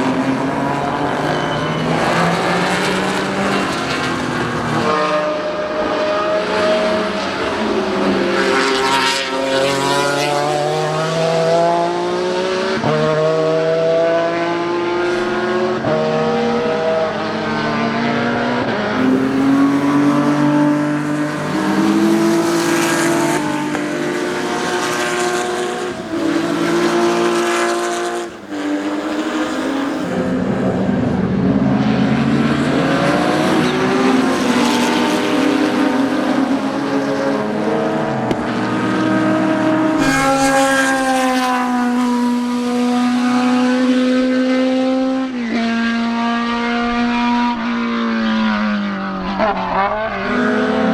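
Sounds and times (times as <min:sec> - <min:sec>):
racing car engines at full throttle: 0:00.0 - 0:50.9.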